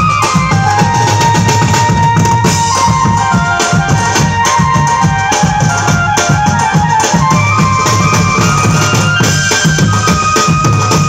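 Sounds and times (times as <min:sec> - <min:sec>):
drums and timbales playing: 0:00.0 - 0:11.0
keyboard melody: 0:00.0 - 0:11.0.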